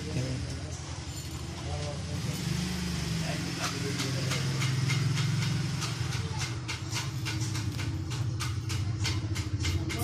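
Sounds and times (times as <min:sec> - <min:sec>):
engine running: 0:01.6 - 0:10.0.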